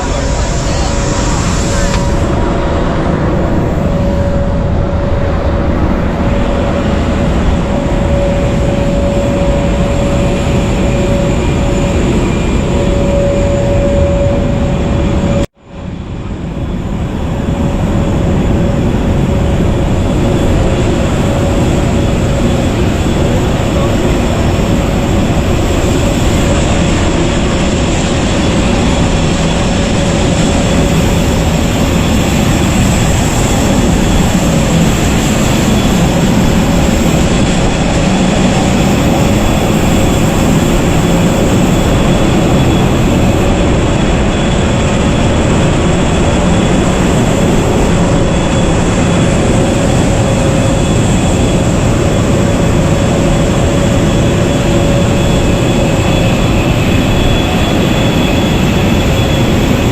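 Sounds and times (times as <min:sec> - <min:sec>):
aircraft cabin engine drone: 0:00.0 - 0:59.9.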